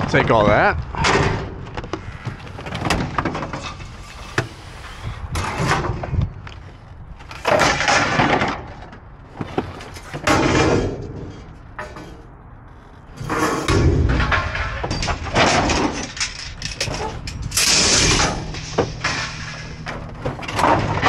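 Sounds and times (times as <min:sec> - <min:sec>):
metal shelving clattering and scraping: 0:00.1 - 0:06.3, 0:07.2 - 0:21.0.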